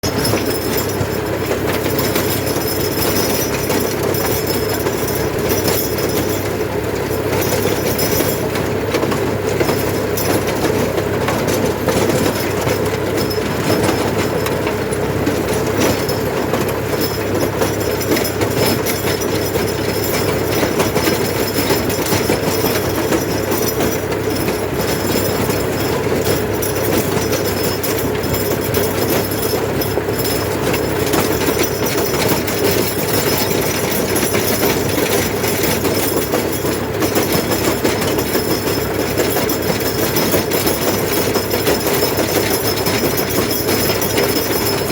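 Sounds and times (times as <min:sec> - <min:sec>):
tractor engine and rotary tiller: 0:00.0 - 0:44.9.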